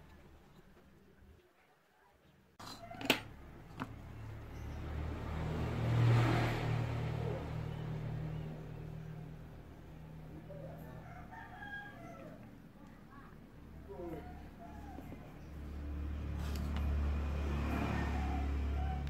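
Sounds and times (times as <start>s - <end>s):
vehicle engine passing by: 2.8s - 12.7s, 13.4s - 19.0s.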